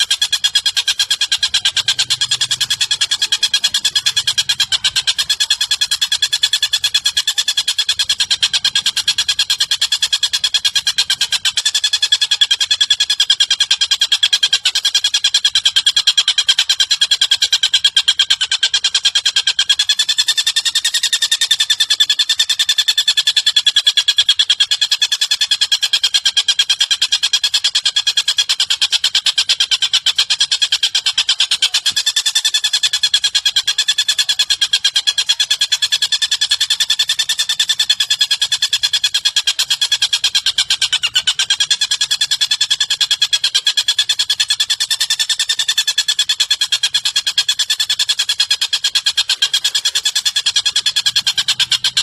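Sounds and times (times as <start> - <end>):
high buzzing bird trill: 0.0 - 52.0.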